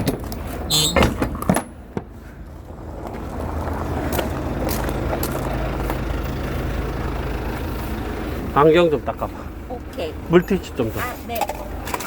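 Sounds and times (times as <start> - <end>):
vehicle engine and road hum: 0.0 - 12.0.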